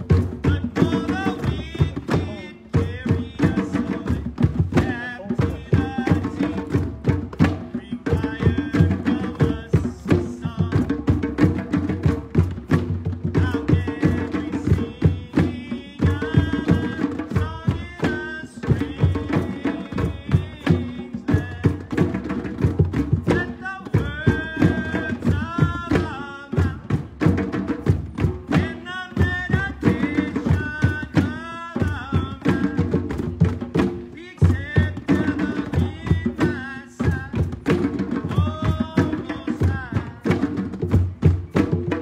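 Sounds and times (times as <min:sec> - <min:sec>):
hand drums playing rhythm: 0:00.0 - 0:42.0.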